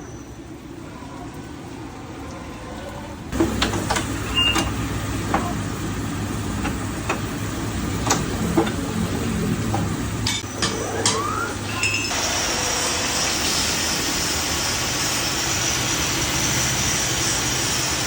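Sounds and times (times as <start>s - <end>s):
milling machine hum: 0.4s - 18.0s.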